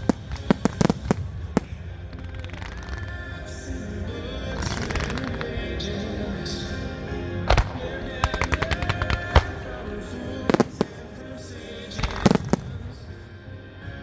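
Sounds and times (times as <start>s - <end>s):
fireworks exploding: 0.0s - 5.8s, 7.5s - 13.3s
music: 0.0s - 14.0s.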